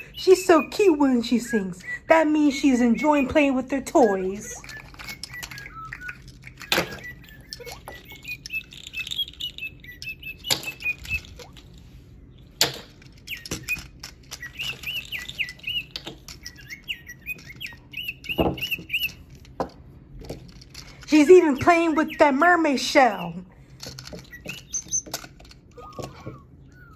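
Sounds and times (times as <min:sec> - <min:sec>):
small bird chirping: 0:00.0 - 0:19.6, 0:20.9 - 0:26.9.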